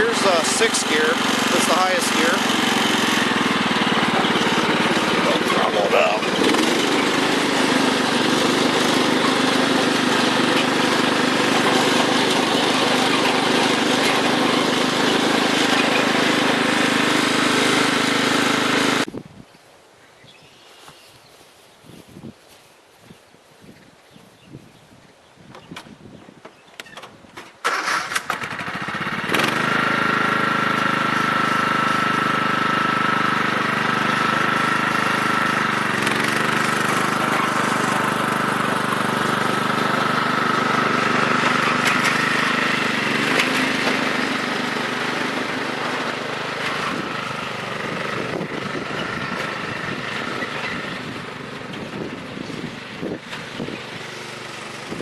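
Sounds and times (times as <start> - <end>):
riding mower engine running: 0.0 - 19.1, 25.6 - 55.0.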